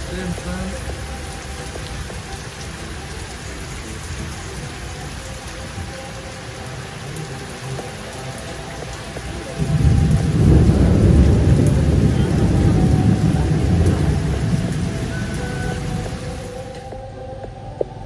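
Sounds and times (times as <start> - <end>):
heavy rain on water and paving: 0.0 - 18.0.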